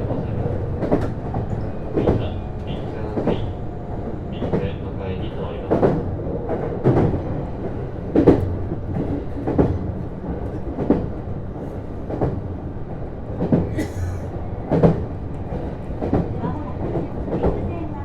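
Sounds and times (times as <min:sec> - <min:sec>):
train wheels clicking over rail joints: 0:00.0 - 0:17.7
train running rumble: 0:00.0 - 0:18.0.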